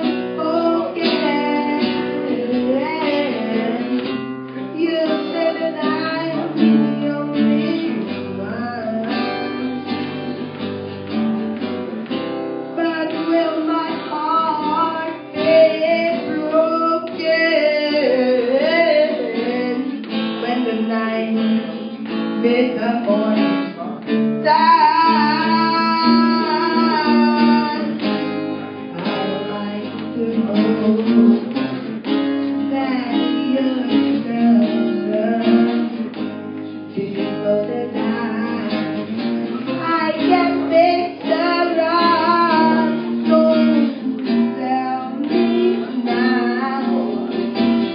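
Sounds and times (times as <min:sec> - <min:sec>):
woman singing: 0:00.0 - 0:11.0, 0:12.7 - 0:47.9
strummed acoustic guitar: 0:00.0 - 0:47.9.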